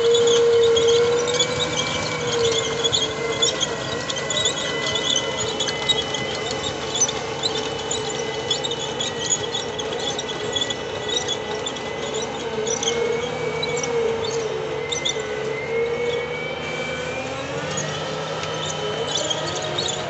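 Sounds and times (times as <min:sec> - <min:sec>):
diesel engine under load: 0:00.0 - 0:20.0
steady whine: 0:00.0 - 0:20.0.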